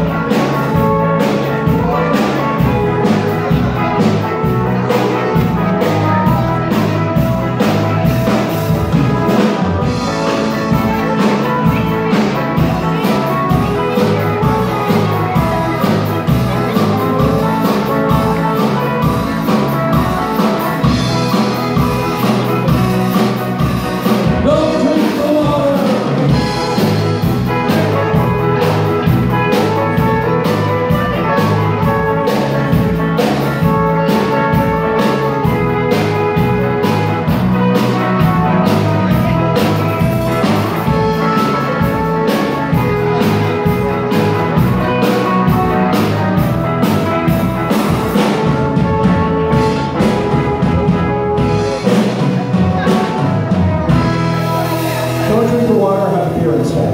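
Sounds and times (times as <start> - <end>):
surf rock band playing: 0.0 - 56.9.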